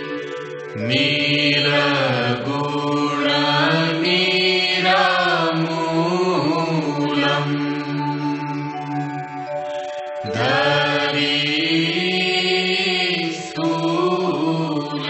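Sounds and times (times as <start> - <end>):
person chanting devotional song: 0.0 - 15.0.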